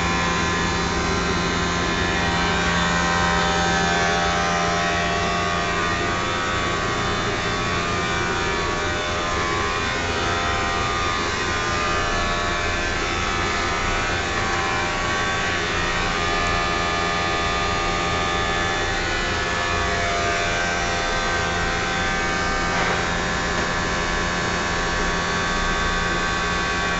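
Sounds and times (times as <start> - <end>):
blower motor whirring hum: 0.0 - 26.9.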